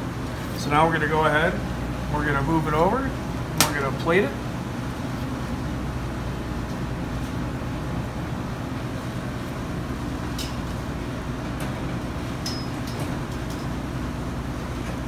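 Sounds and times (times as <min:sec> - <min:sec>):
kitchen ventilation rumble: 0:00.0 - 0:15.0.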